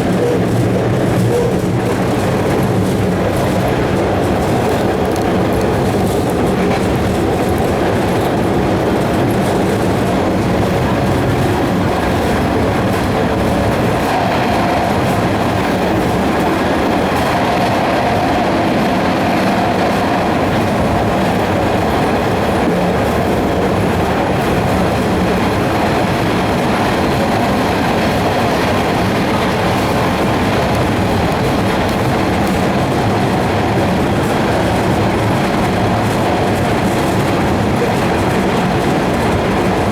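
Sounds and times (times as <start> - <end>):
subway wheels on rail: 0.0 - 39.9.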